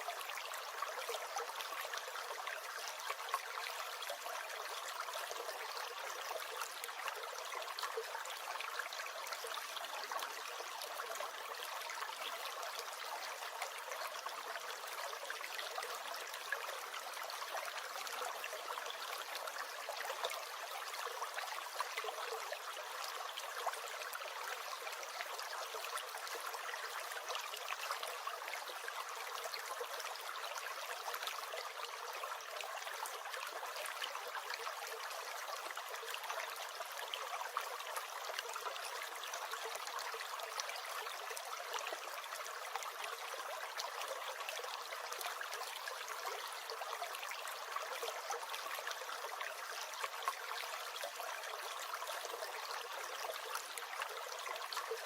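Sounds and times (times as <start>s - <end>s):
small stream gurgling: 0.0s - 55.0s.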